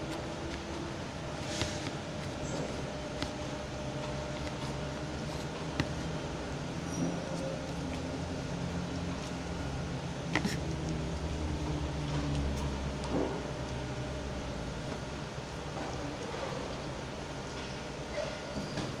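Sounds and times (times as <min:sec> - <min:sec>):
steady fan hum: 0:00.0 - 0:19.0.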